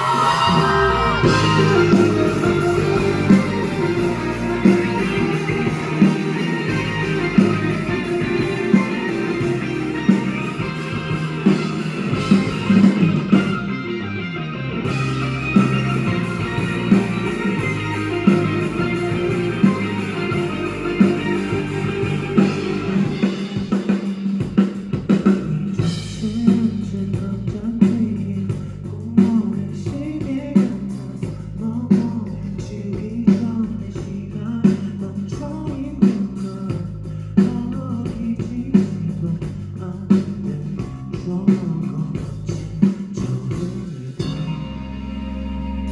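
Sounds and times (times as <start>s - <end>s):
drum kit beat: 0.0s - 13.8s, 14.9s - 45.9s
guitar: 0.0s - 45.9s.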